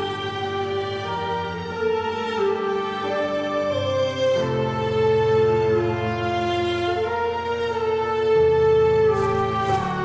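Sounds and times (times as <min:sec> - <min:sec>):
slow music of long held notes: 0:00.0 - 0:10.0.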